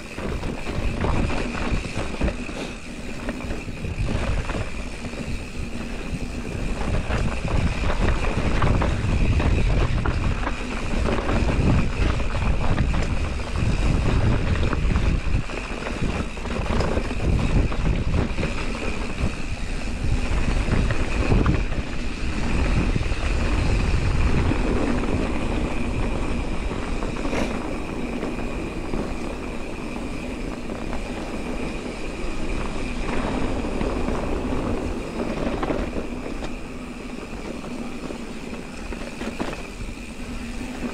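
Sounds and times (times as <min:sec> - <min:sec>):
tyres rolling on dirt: 0:00.0 - 0:40.9
wind rushing over microphone: 0:00.0 - 0:40.9.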